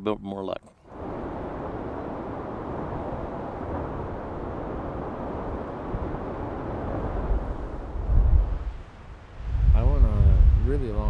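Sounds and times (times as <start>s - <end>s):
wind buffeting microphone: 0.9s - 11.0s.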